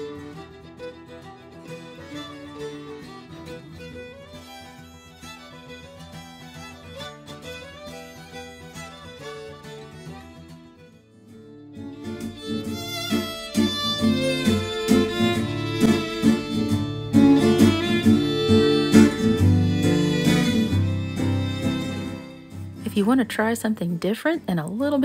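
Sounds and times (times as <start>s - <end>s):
fiddle and guitar music: 0.0s - 23.6s.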